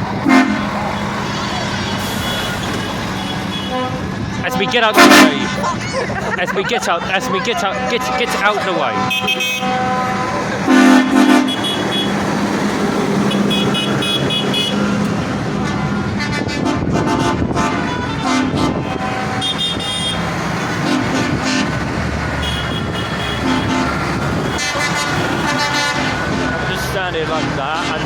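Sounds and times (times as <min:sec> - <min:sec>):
tractor engines running: 0:00.0 - 0:28.0
tractor horns tooting: 0:00.0 - 0:28.0.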